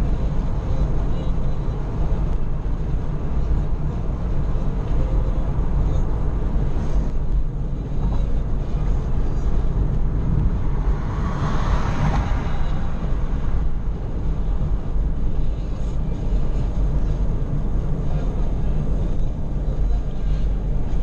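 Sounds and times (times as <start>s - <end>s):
car tyre and wind rumble: 0.0s - 21.0s.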